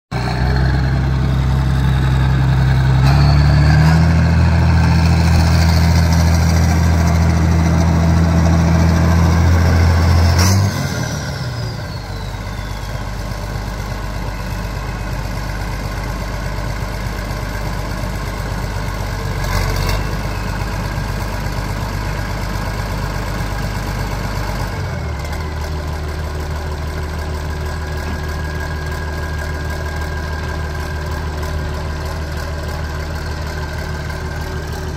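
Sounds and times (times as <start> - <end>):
tractor diesel engine: 0.1 - 34.9.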